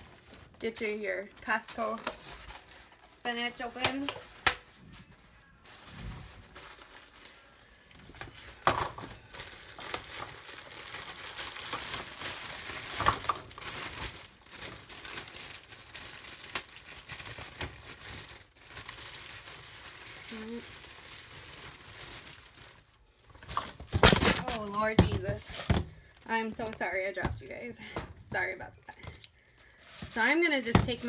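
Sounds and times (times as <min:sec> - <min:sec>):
plastic packaging crinkling: 0:00.0 - 0:31.0.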